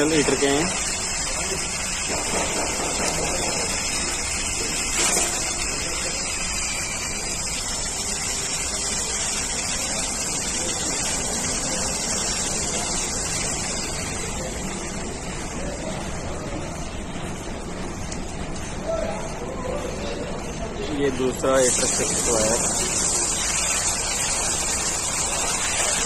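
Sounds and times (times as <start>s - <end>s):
steady rushing hiss: 0.0s - 18.7s, 21.0s - 26.0s.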